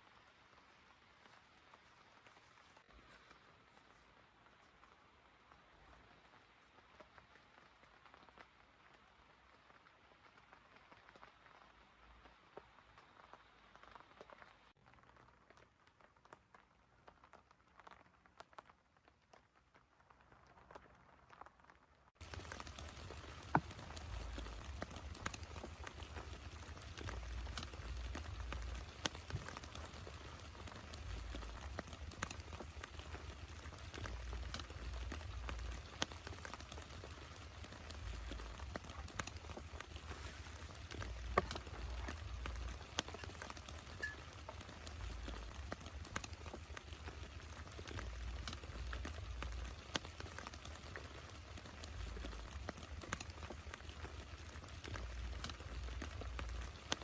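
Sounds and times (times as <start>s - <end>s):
faint rain hiss: 0.0s - 57.0s
raindrops ticking on a surface: 0.0s - 57.0s.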